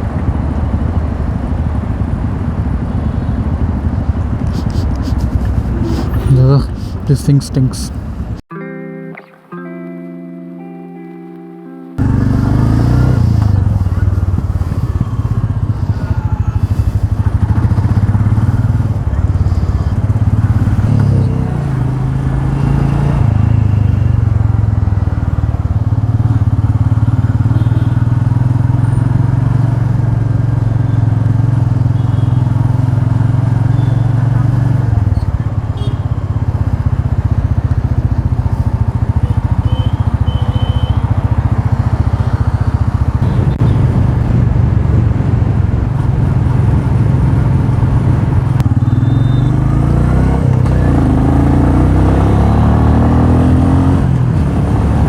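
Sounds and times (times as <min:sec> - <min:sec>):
motorcycle engine running: 0:00.0 - 0:07.0, 0:12.0 - 0:55.0.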